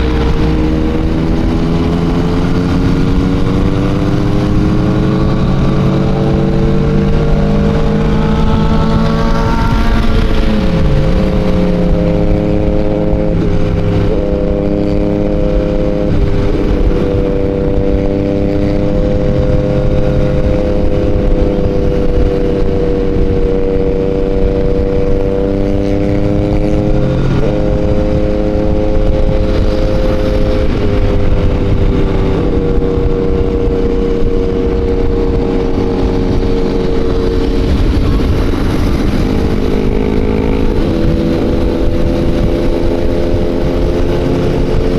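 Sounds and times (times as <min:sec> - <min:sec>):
low wind rumble: 0:00.0 - 0:44.9
motorcycle engine cruising: 0:00.0 - 0:44.9.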